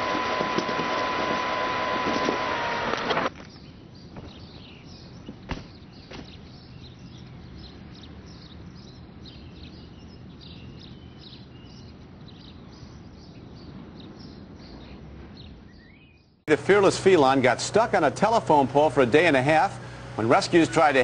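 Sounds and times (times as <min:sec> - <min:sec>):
birds chirping: 0:02.0 - 0:21.0.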